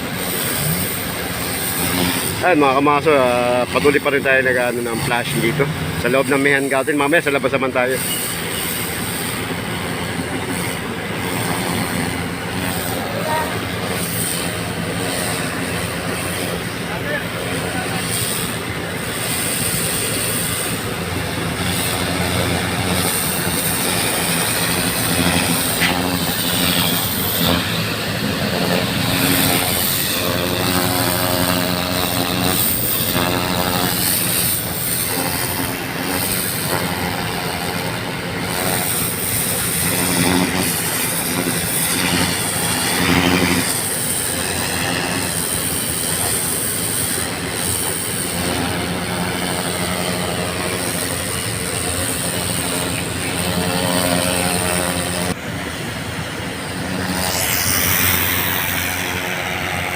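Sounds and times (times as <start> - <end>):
hose spraying water on pavement: 0.0 - 59.9
pump engine running: 0.0 - 59.9.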